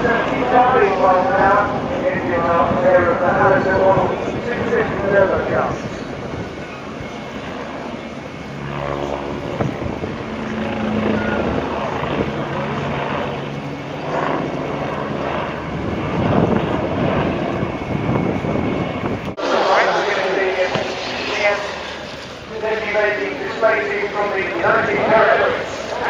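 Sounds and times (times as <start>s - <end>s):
helicopter rotor and engine: 0.0s - 26.0s.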